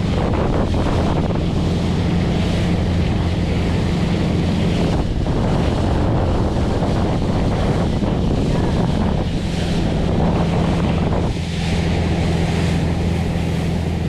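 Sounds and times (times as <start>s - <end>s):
motorboat engine running: 0.0s - 14.0s
water rushing past hull: 0.0s - 14.0s
wind buffeting microphone: 0.0s - 14.0s.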